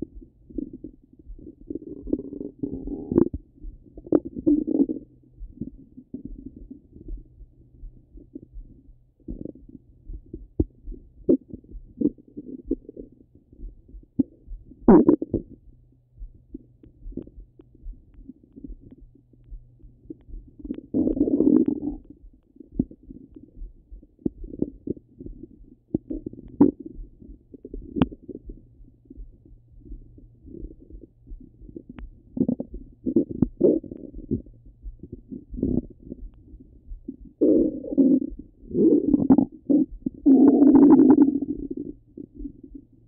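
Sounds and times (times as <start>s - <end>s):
stomach gurgling: 0.0s - 15.7s, 16.3s - 43.0s
faint low hum: 0.0s - 43.0s.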